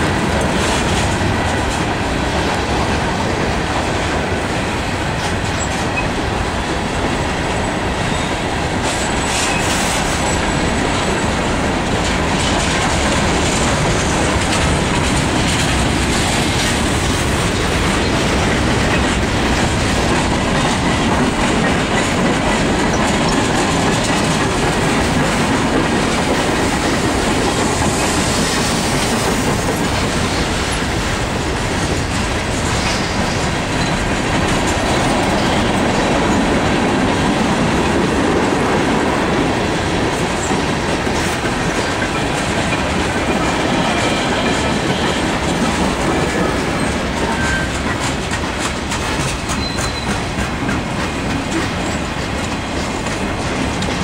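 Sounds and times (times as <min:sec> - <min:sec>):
freight train wheels clattering: 0:00.0 - 0:54.0.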